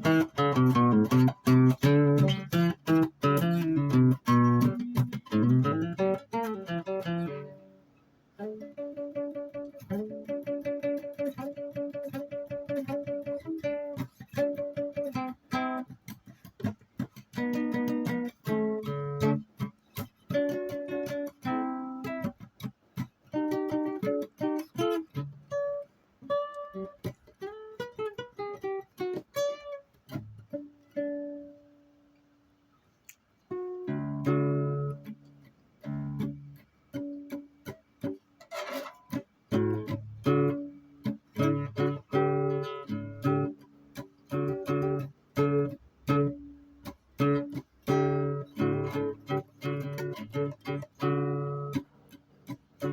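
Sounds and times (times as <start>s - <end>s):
plucked string instrument melody: 0.0s - 7.8s, 8.4s - 31.9s, 33.5s - 52.9s
guitar playing: 0.0s - 32.1s, 33.4s - 52.9s.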